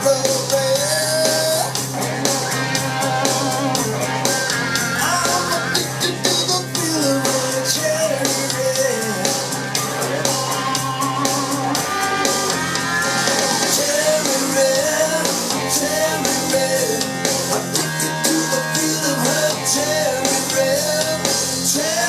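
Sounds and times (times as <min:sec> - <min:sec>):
rock song with singer: 0:00.0 - 0:22.0.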